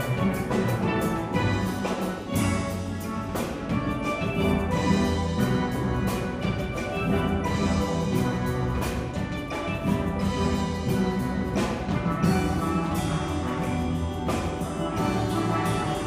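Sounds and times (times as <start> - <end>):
percussion: 0.0 - 16.0
steel pans playing: 0.0 - 16.0.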